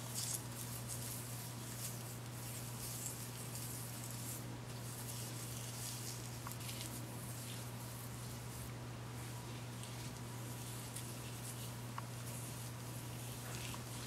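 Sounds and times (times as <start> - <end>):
hands rustling through damp hair: 0.0 - 14.0
steady low hum: 0.0 - 14.0.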